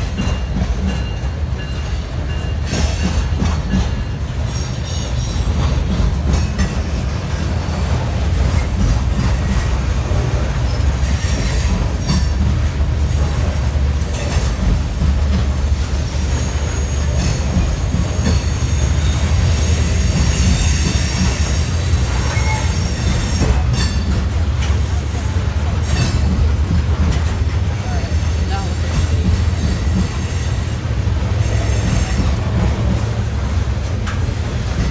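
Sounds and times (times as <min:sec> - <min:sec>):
freight train rumbling: 0:00.0 - 0:34.9
wheels clicking over rail joints: 0:00.0 - 0:34.9
wheels squealing on rails: 0:00.0 - 0:34.9.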